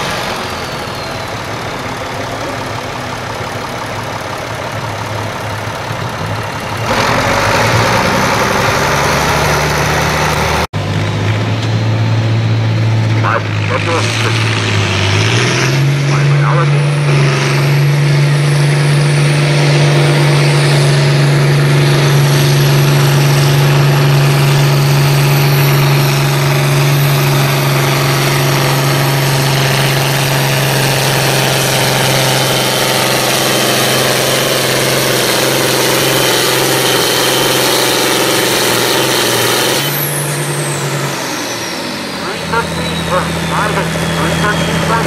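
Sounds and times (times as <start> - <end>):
tractor diesel engine droning: 0.0 - 45.0.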